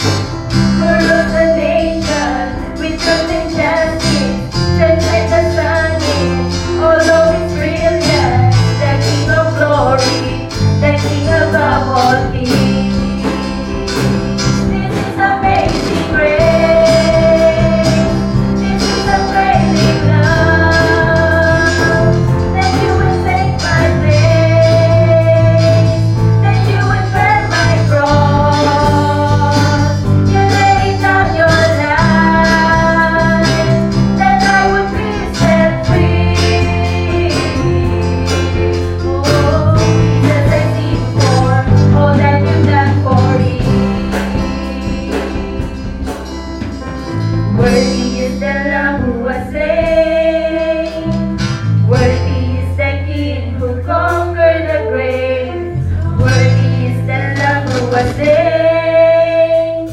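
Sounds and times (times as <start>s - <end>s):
acoustic guitar: 0.0s - 59.9s
electric bass: 0.0s - 59.9s
keyboard: 0.0s - 59.9s
women singing: 0.8s - 13.4s, 14.6s - 46.0s, 47.6s - 59.9s.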